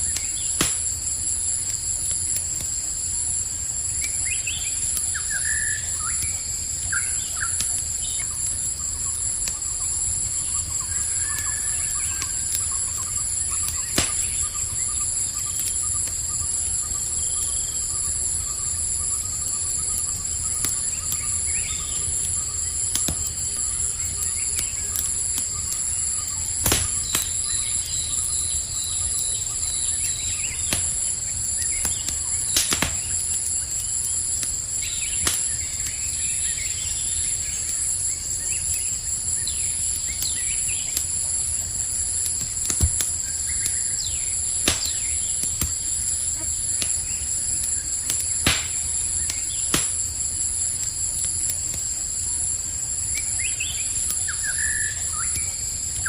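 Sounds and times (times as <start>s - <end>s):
burning wood popping: 0.0s - 56.0s
campfire crackling: 0.0s - 56.0s
crickets chirping: 0.0s - 56.0s.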